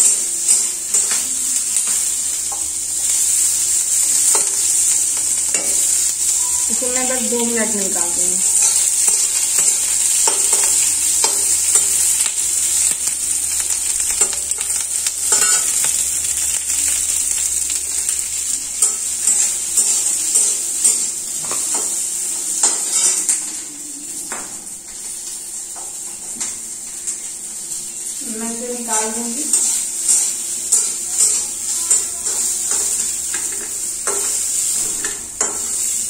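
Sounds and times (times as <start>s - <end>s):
vegetables sizzling in oil: 0.0s - 36.0s.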